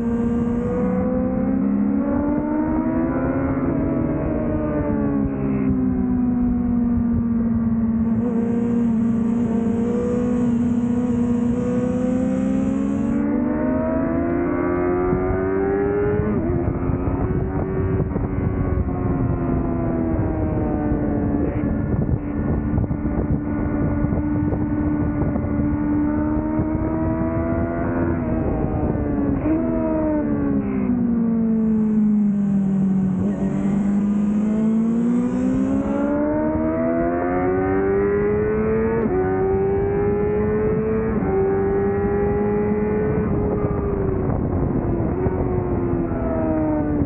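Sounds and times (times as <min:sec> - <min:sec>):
motorcycle engine at high revs: 0:00.0 - 0:47.0
wind over microphone: 0:00.0 - 0:47.0.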